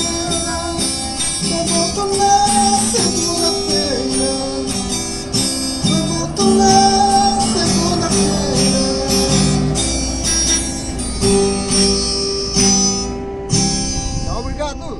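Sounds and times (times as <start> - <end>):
acoustic guitar strummed chords: 0.0 - 14.9.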